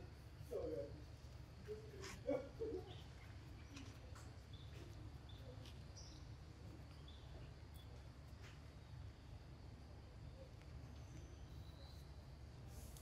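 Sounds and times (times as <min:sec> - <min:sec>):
faint bird chirps: 0:00.0 - 0:13.0
steady low hum: 0:00.0 - 0:13.0.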